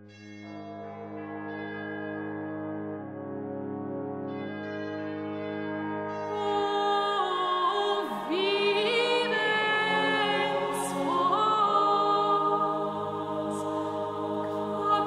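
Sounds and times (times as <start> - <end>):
sung chant: 0.0 - 15.0
sustained held chords: 0.0 - 15.0.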